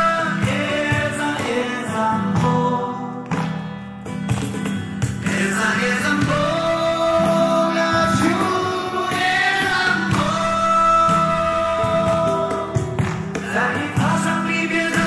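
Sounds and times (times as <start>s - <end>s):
song with held sung notes: 0.0s - 3.5s, 5.2s - 15.0s.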